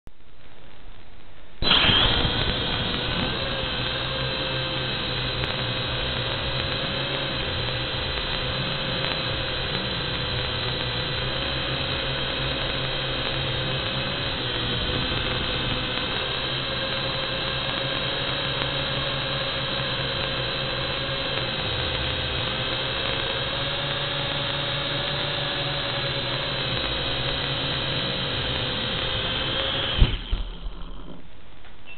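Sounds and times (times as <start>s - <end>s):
toy drone motors whining: 1.6s - 31.4s.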